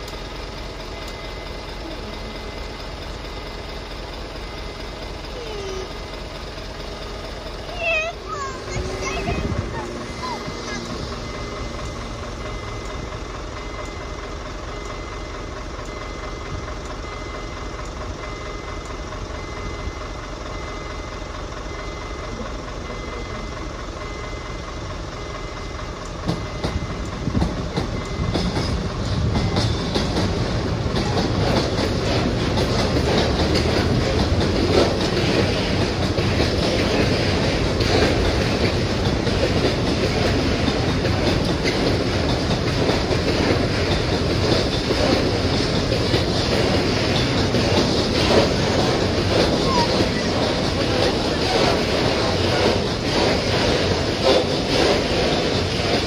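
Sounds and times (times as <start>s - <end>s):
freight train rumbling: 0.0s - 56.0s
wagon wheels clacking on rails: 0.0s - 56.0s.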